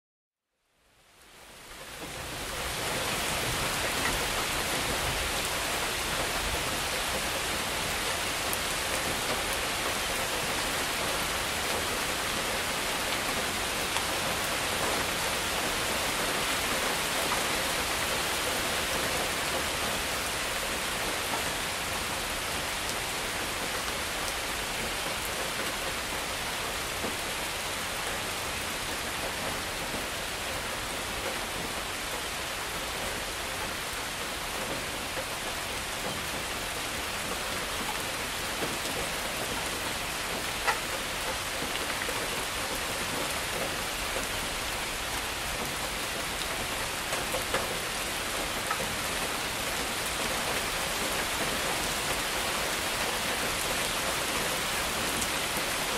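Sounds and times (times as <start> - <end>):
heavy rain falling: 0.9 - 55.9.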